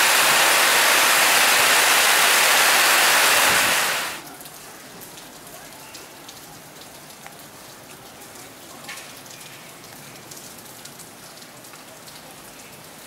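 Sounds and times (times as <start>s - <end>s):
hail and rain striking leaves: 0.0s - 13.0s.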